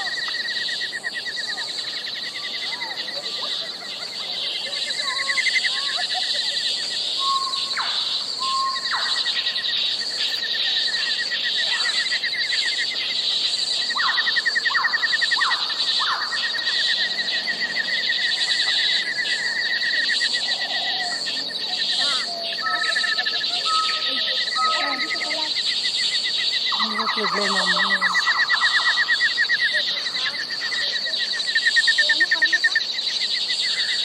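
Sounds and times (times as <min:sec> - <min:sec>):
lower ticking insect trill: 0:00.0 - 0:34.0.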